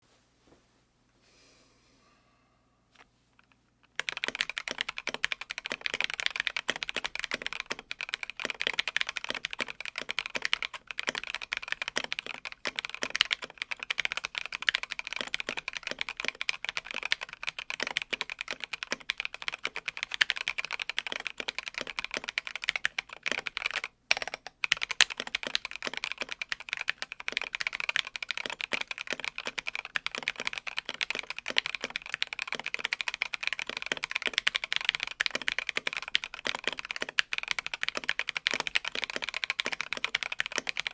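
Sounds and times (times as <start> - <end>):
fast typing on mechanical keyboard: 3.9 - 40.9.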